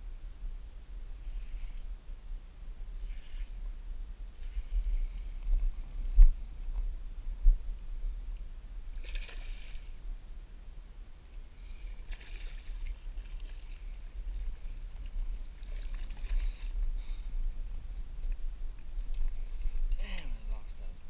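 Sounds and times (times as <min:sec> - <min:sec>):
steady low rumble: 0:00.0 - 0:09.1, 0:13.1 - 0:21.0.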